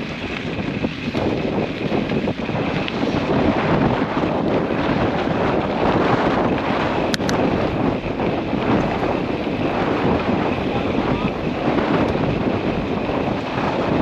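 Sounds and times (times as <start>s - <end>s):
vehicle driving on dirt trail: 0.0s - 14.0s
wind on microphone: 0.0s - 14.0s.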